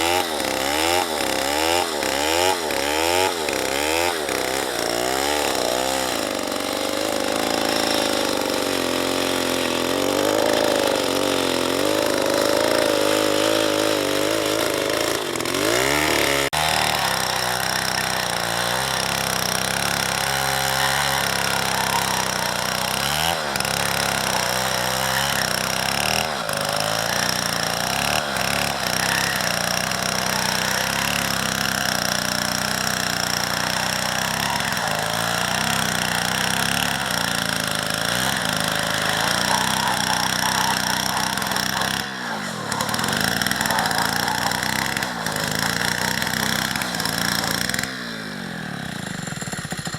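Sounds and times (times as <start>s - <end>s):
chainsaw cutting through tree: 0.0s - 49.9s.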